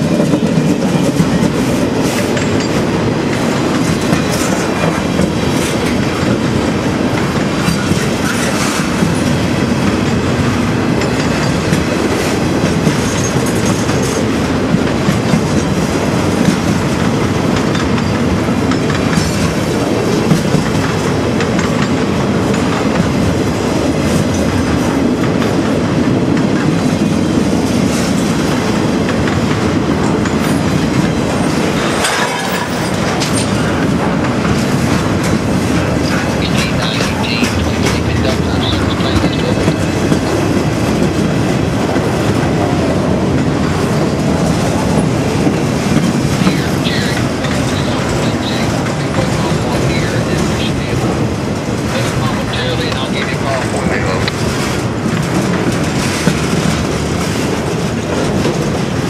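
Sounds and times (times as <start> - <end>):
train wheels rumbling on rails: 0.0 - 59.0
wheels clicking over rail joints: 0.0 - 59.0.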